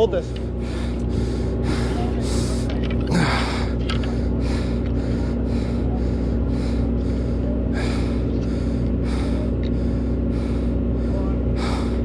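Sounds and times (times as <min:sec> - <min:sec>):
boat engine humming: 0:00.0 - 0:12.0
rhythmic hiss: 0:00.0 - 0:12.0.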